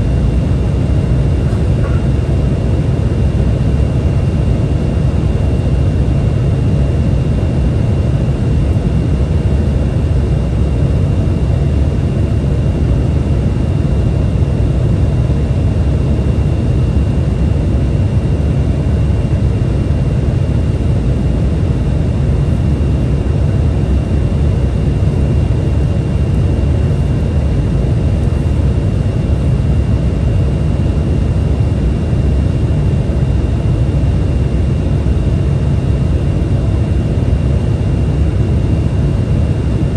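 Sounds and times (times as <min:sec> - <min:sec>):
high steady whine: 0:00.0 - 0:39.9
jet cabin rumble: 0:00.0 - 0:39.9.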